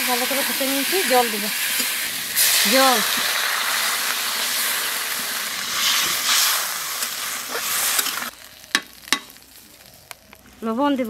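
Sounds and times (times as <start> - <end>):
hot oil sizzling loudly: 0.0 - 10.7.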